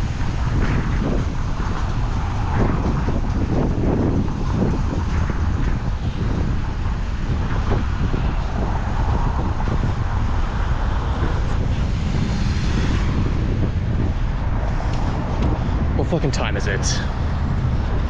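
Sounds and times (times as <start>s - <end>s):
road traffic: 0.0s - 18.0s
wind on microphone: 0.0s - 18.0s.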